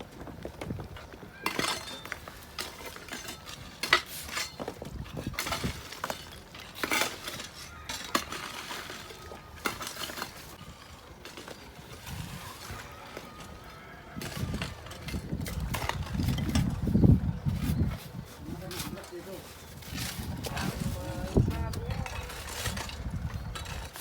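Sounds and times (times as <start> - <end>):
stones and hand tools clinking: 0.6 - 24.0.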